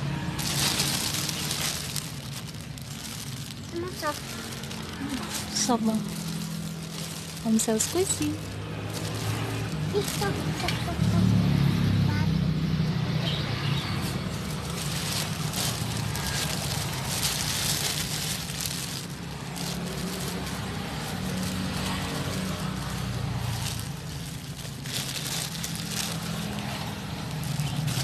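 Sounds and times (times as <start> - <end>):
rustling handling noise: 0.0 - 11.5, 13.3 - 28.0
vehicle engine running: 0.0 - 28.0.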